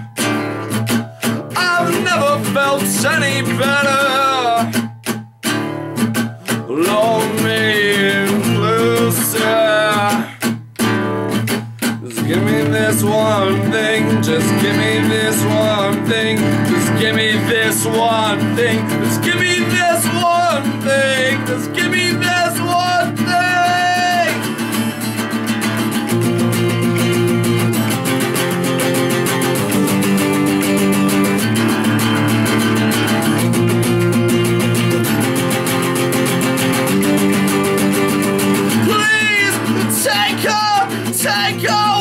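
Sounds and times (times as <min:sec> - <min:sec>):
acoustic guitar strummed hard: 0:00.0 - 0:42.0.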